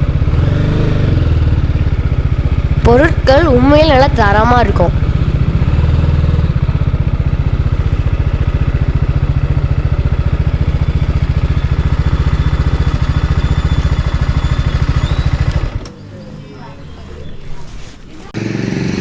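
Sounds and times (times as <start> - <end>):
motorcycle engine running: 0.0 - 16.5, 18.4 - 19.0.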